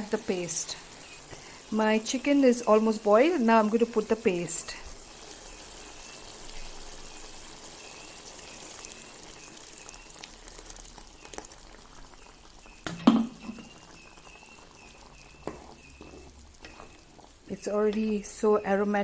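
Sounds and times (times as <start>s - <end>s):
pot bubbling and sizzling: 0.0s - 19.0s.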